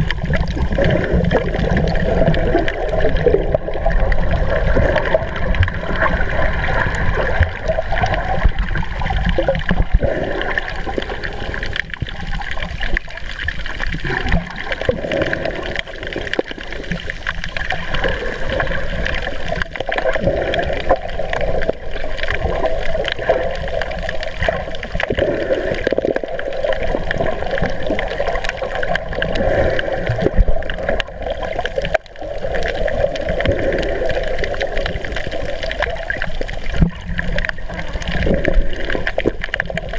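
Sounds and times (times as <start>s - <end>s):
water sloshing underwater: 0.0s - 39.9s.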